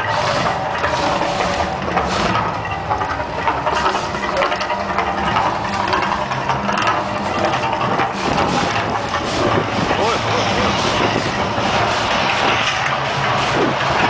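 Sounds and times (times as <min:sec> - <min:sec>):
deep rumble: 0:00.0 - 0:14.0
gas fire jets hissing: 0:00.0 - 0:14.0.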